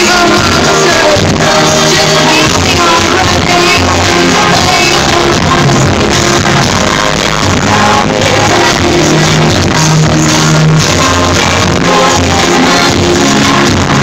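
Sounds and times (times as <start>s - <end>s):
loud live pop music: 0.0s - 14.0s.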